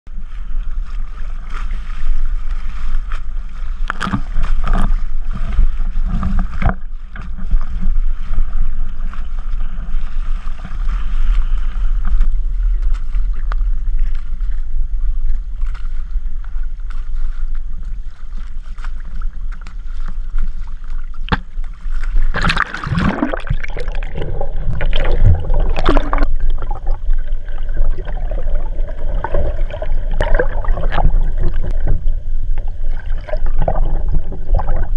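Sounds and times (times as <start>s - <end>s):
sea water slapping and sloshing: 0.1s - 34.9s.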